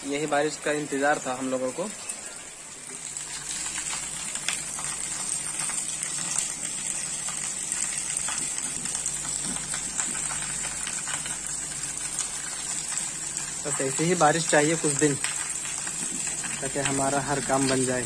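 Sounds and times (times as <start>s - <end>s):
heavy rain on a wet street: 0.0s - 18.0s.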